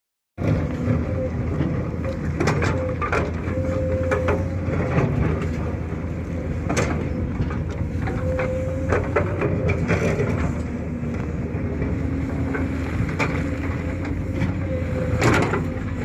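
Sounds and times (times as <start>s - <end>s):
excavator diesel engine: 0.4s - 16.0s
hydraulic whine: 0.4s - 16.0s.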